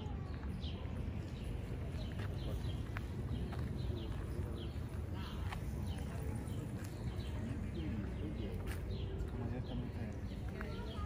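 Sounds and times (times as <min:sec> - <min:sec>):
birds chirping: 0:00.0 - 0:11.0
city traffic hum: 0:00.0 - 0:11.0.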